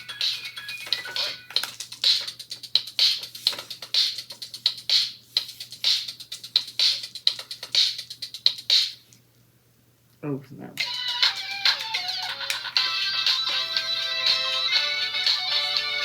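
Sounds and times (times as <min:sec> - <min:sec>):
drum machine beat with synths: 0:00.0 - 0:09.1, 0:10.8 - 0:16.0.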